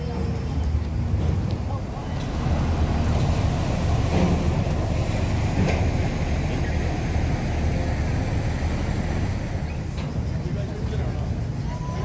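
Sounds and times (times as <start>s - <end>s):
steady low rumble: 0.0s - 11.7s
faint voices of passers-by: 0.0s - 12.0s.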